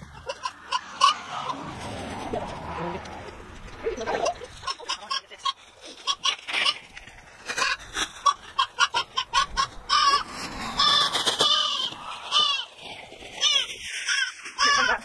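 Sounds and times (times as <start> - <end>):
chickens clucking: 0.0 - 15.0
chickens squawking: 0.0 - 15.0.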